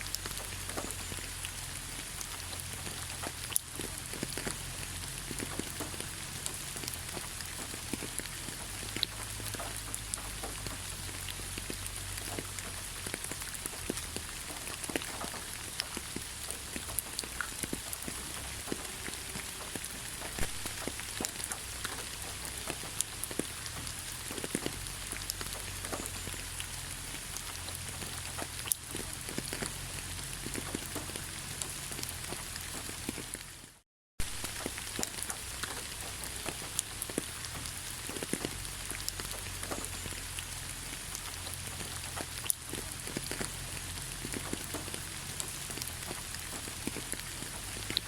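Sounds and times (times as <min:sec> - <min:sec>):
rain hissing: 0:00.0 - 0:48.0
raindrop ticks: 0:00.0 - 0:48.0.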